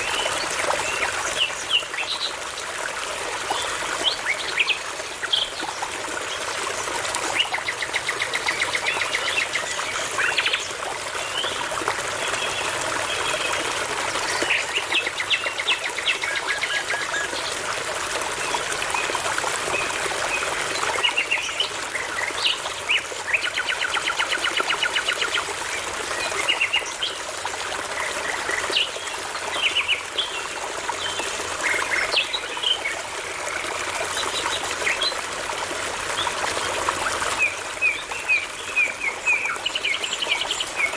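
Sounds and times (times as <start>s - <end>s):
babbling brook: 0.0s - 40.9s.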